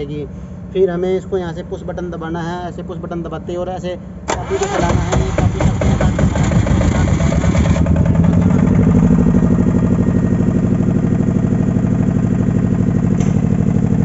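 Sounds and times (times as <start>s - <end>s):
generator engine running: 2.5s - 14.0s.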